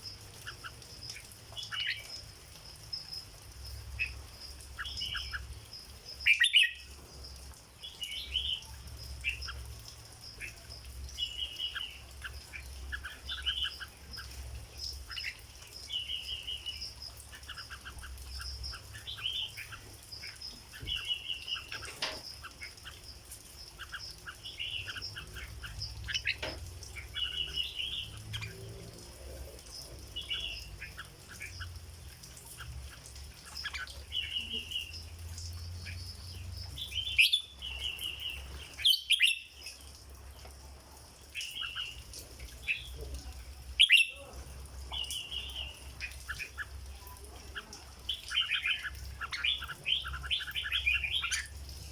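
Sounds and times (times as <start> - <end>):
bird singing warbled phrases: 0.0 - 7.0, 7.7 - 39.9, 41.0 - 51.9.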